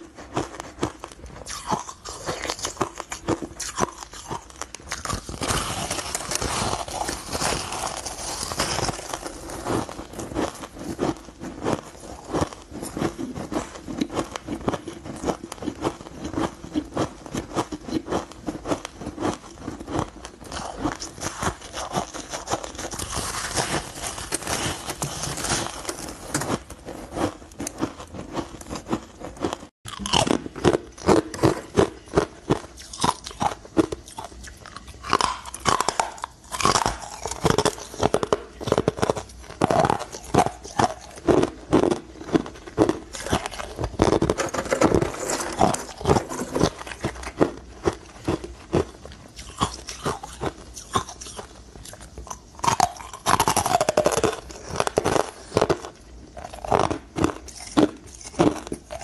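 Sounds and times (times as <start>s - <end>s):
crunching ice: 0.2s - 59.0s.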